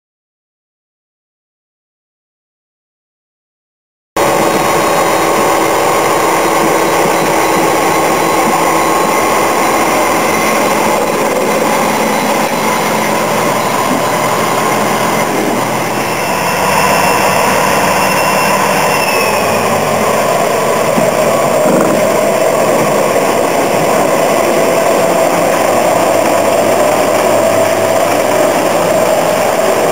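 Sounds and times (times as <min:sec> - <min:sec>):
diesel locomotive engine drone: 0:04.2 - 0:29.9
faint high whine: 0:04.2 - 0:29.9.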